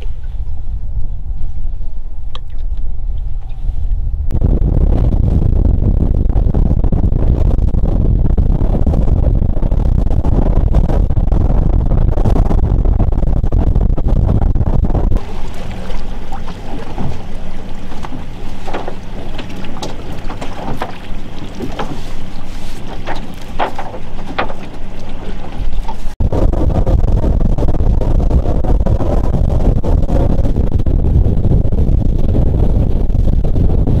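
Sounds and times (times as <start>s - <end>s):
boat engine rumbling: 0.0s - 34.0s
steady low hum: 0.0s - 34.0s
wind on microphone: 0.0s - 34.0s.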